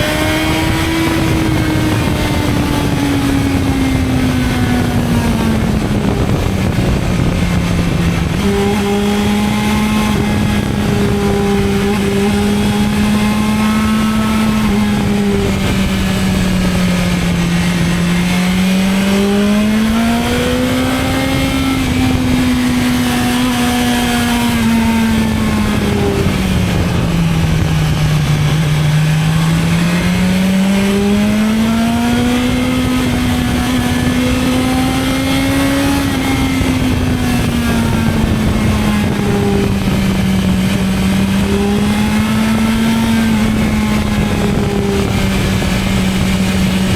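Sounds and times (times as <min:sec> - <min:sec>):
wind and road rush: 0:00.0 - 0:46.9.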